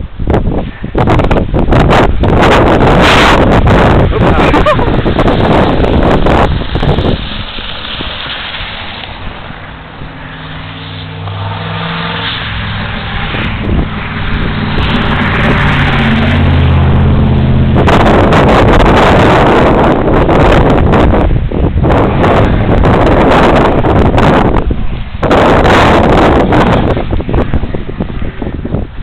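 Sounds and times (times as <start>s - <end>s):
vehicle engine: 0.0s - 29.0s
wind buffeting microphone: 0.0s - 29.0s.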